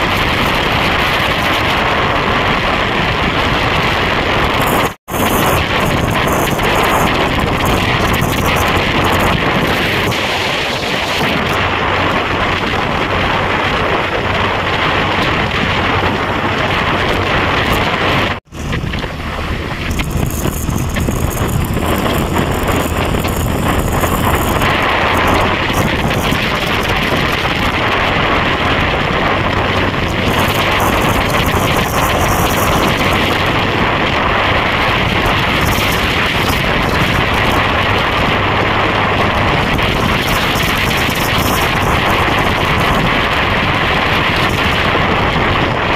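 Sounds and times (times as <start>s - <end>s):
motorcycle engine and road noise: 0.0s - 45.9s
wind over microphone: 0.0s - 45.9s.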